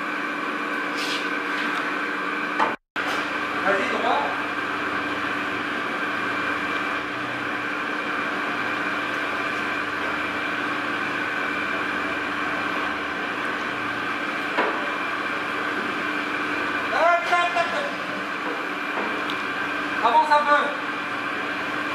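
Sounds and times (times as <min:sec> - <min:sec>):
machinery droning: 0:02.5 - 0:21.9.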